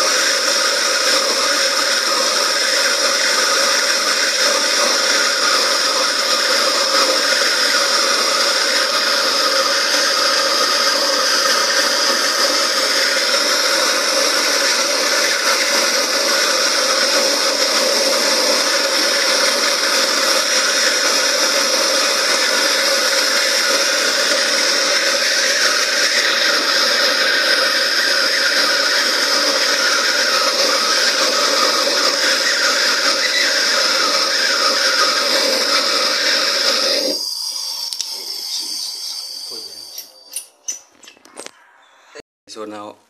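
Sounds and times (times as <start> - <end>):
gas torch hissing: 0.0 - 40.8.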